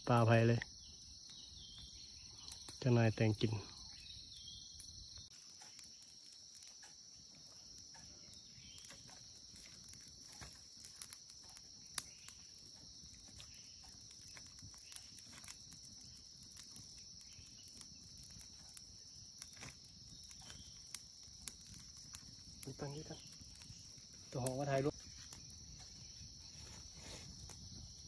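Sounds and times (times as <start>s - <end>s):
insect chorus drone: 0.0s - 28.0s
wood fire crackling: 0.0s - 28.0s.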